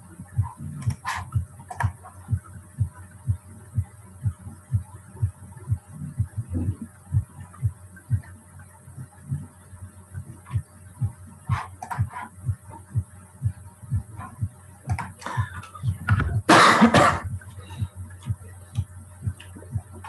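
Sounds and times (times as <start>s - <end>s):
faint steady hum: 0.0s - 20.0s
low dull thumps: 0.3s - 8.3s, 10.2s - 20.0s.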